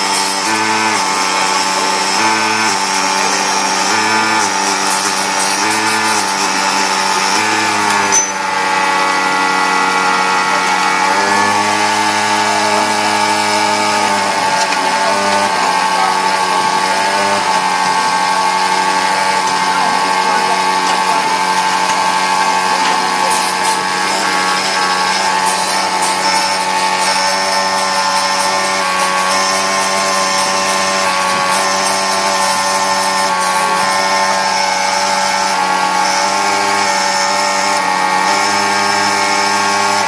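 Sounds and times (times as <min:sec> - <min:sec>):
key-cutting machine whine: 0:00.0 - 0:40.0.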